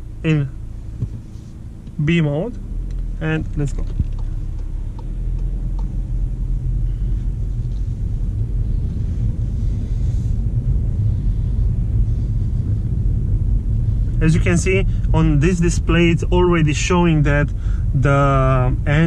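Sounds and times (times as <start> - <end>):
car engine rumble in cabin: 0.0 - 19.0.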